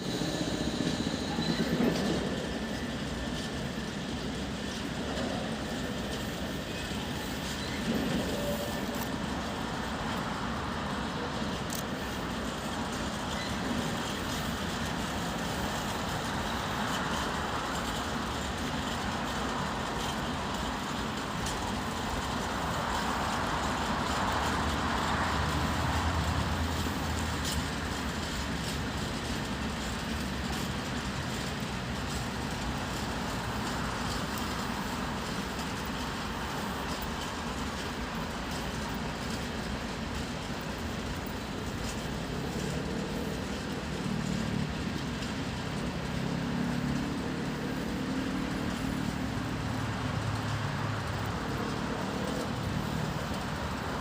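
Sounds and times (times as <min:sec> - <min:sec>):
locomotive low hum: 0:00.0 - 0:54.0
train wheels rumbling: 0:00.0 - 0:54.0.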